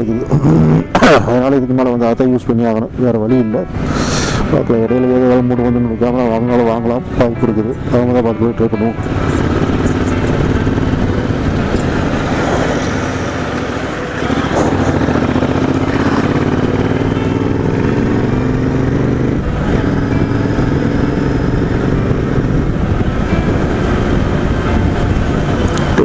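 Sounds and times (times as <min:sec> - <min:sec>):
motorcycle engine running: 0:04.9 - 0:26.0.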